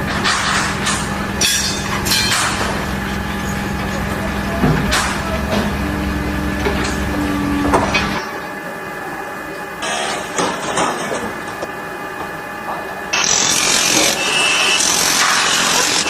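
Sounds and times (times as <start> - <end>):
machine hum with low rumble: 0.0 - 16.0.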